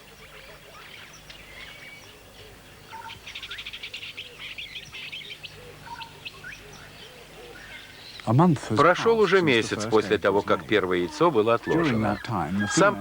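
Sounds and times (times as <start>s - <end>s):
small birds chirping and whistling: 0.0s - 8.3s, 9.0s - 13.0s.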